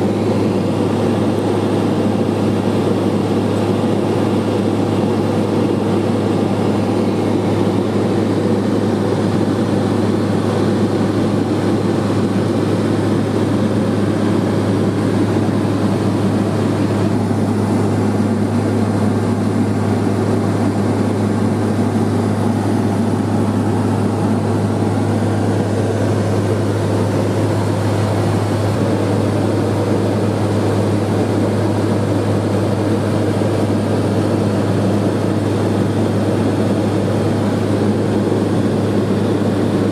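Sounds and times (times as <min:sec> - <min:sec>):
propeller engine drone in cabin: 0:00.0 - 0:39.9.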